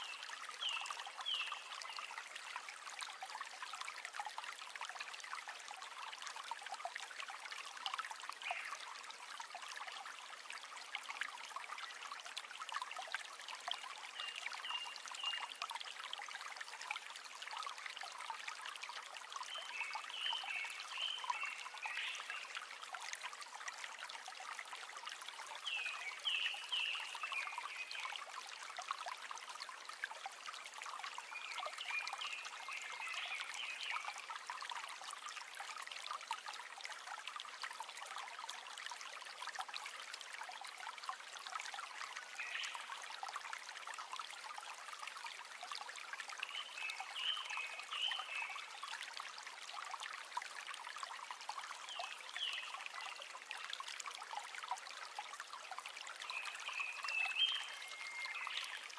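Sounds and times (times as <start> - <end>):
river water trickling over stones: 0.0 - 58.9.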